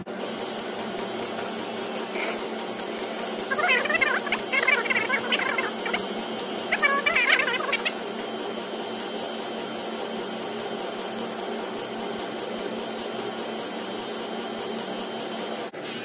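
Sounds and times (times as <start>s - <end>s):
air pump humming: 0.0s - 16.0s.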